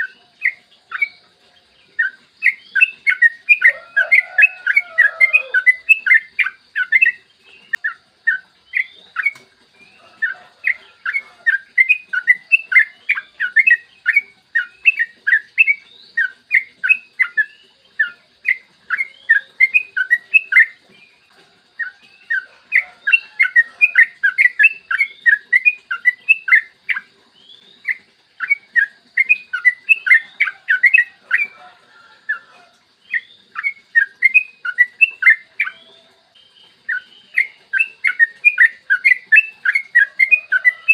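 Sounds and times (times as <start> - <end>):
bird singing chirped whistles: 0.0 - 21.2, 21.8 - 31.6, 32.3 - 40.9.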